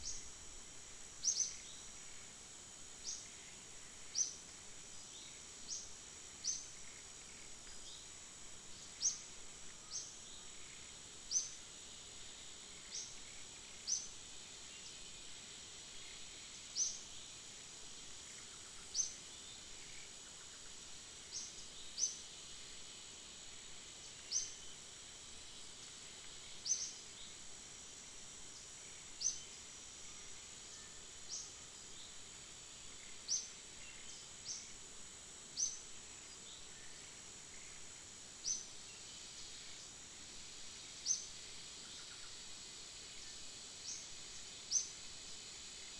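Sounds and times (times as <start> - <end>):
high insect drone: 0.0 - 45.9.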